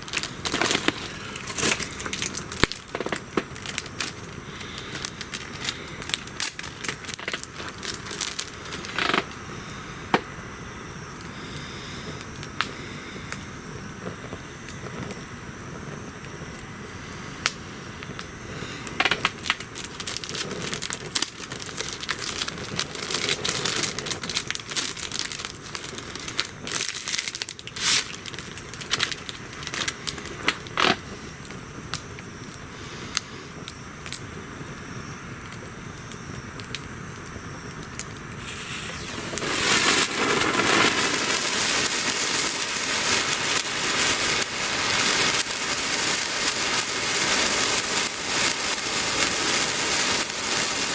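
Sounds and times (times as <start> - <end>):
campfire crackling and popping: 0.0 - 50.9
loud steady hiss: 0.0 - 50.9.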